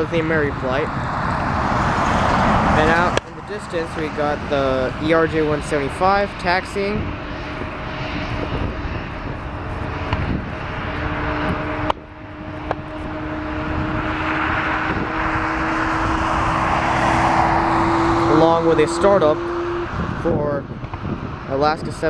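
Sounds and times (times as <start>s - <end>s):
jet engine whine: 0.0s - 22.0s.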